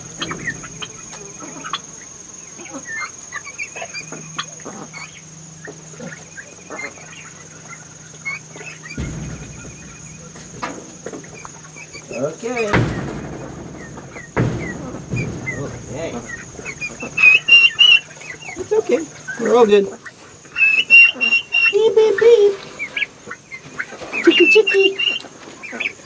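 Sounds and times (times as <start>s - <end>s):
chicks peeping and clucking: 0.0s - 26.0s.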